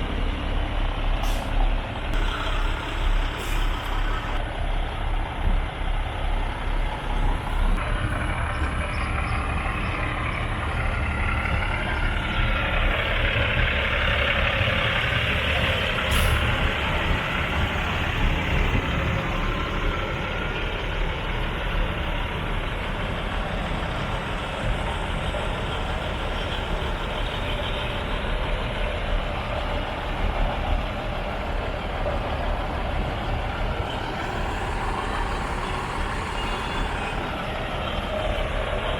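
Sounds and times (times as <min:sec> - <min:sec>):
truck diesel engines rumbling: 0:00.0 - 0:38.9.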